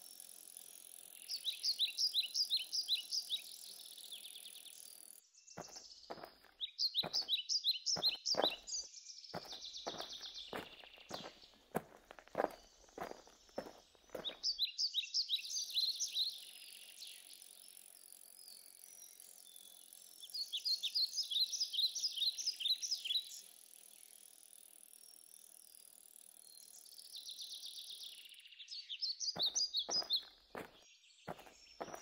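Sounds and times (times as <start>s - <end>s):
songbird chirping: 0.5s - 24.4s, 26.4s - 32.0s.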